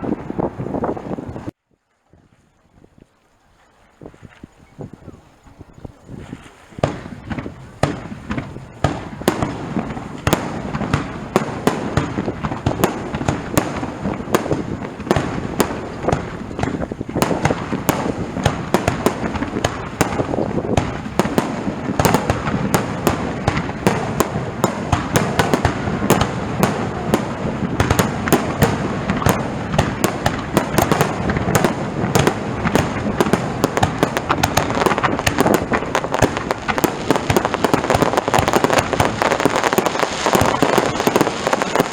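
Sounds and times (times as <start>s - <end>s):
fireworks bursting and crackling: 0.0s - 1.6s, 6.1s - 41.9s.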